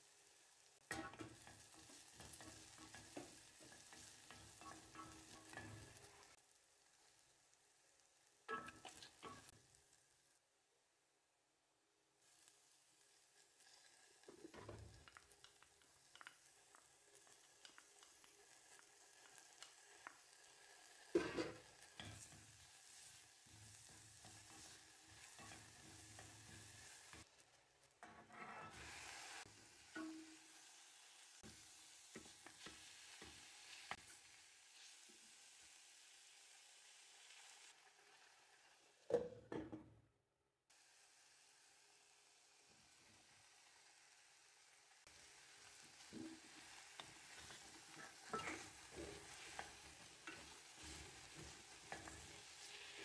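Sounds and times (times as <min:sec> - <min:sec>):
vegetables sizzling in a pot: 0:00.0 - 0:10.8, 0:12.0 - 0:39.4, 0:40.7 - 0:53.0.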